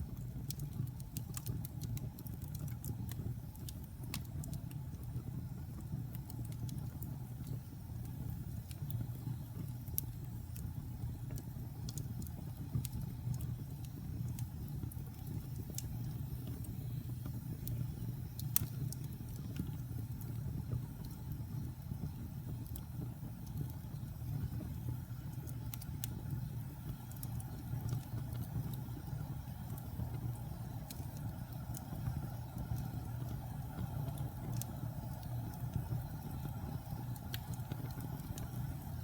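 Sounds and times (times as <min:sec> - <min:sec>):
fire crackling and popping: 0:00.0 - 0:39.0
fire flames rumbling: 0:00.0 - 0:39.0.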